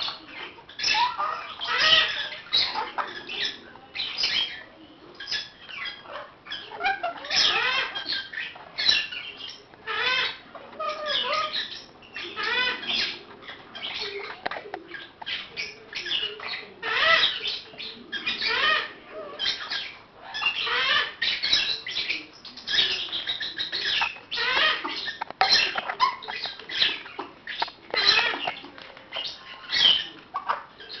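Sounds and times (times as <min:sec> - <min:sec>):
parrots chirping and squawking: 0:00.0 - 0:31.0.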